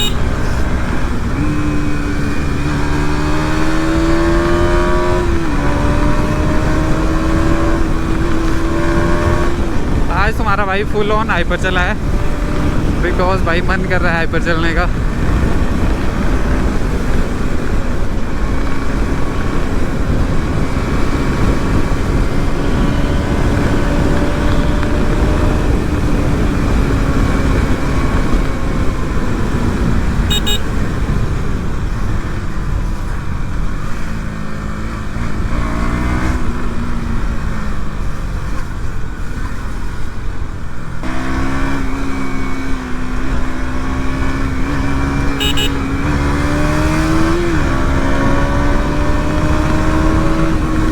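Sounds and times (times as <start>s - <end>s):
motorcycle engine at speed: 0.0s - 50.9s
wind rushing on microphone: 0.0s - 50.9s.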